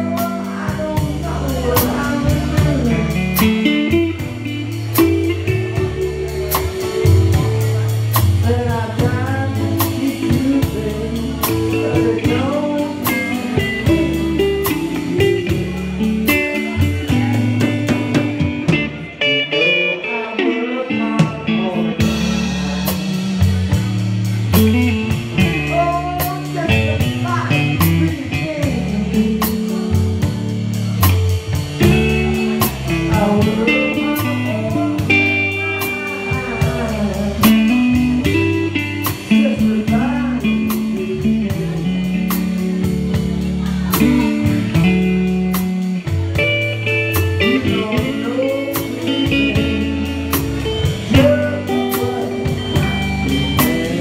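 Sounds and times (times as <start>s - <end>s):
drum kit with cymbals: 0.0s - 19.3s, 21.2s - 54.0s
low bass line: 0.0s - 19.5s, 20.1s - 54.0s
electric guitar lead with bent notes: 0.0s - 54.0s.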